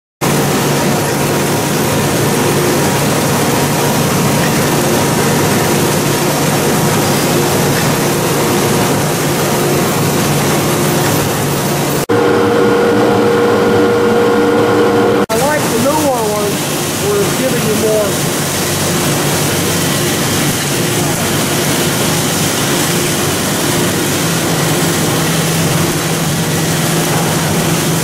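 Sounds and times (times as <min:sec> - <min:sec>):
machine hum with mid-pitched tone: 0:00.2 - 0:28.0
production line hiss and hum: 0:00.2 - 0:28.0.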